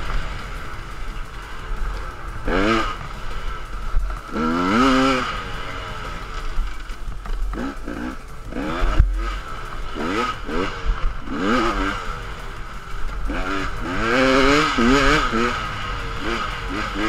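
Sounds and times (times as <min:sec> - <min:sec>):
dirt bike engine revving: 0:00.0 - 0:17.0
wind rumble on camera: 0:00.0 - 0:17.0.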